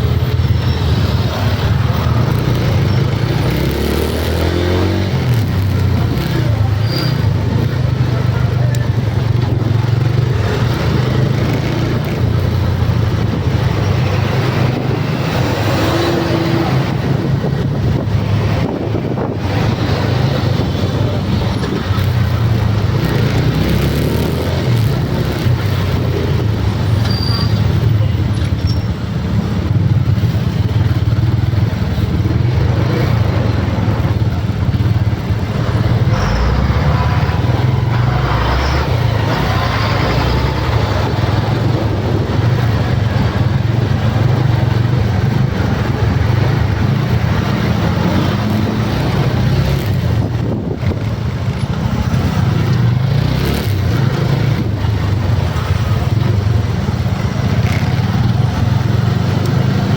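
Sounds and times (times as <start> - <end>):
motor vehicle rumble: 0.0 - 59.9
road noise: 0.0 - 59.9.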